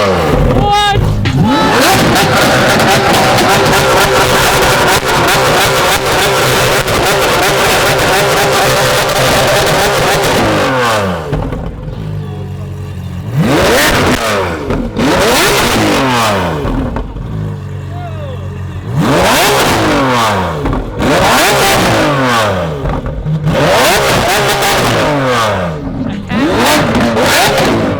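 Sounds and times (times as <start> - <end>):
car engine revving with pops: 0.0 - 17.9, 18.5 - 27.9.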